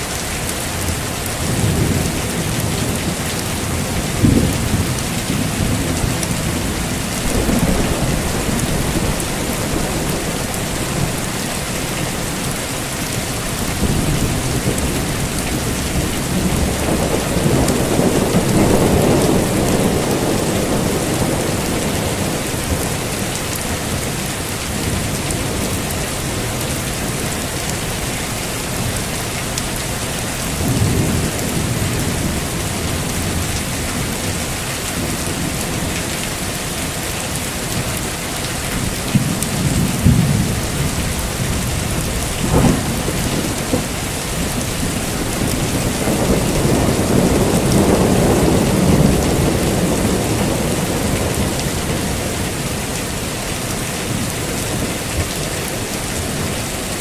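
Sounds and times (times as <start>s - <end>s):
heavy rain falling: 0.0s - 57.0s
thunder rumbling: 0.8s - 29.1s, 38.7s - 57.0s.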